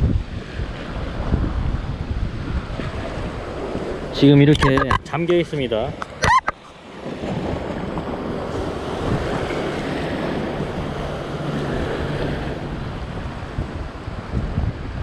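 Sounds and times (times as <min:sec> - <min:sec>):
sea surf washing over rocks: 0:00.0 - 0:15.0
waves breaking: 0:00.0 - 0:15.0
wind buffeting microphone: 0:00.0 - 0:15.0.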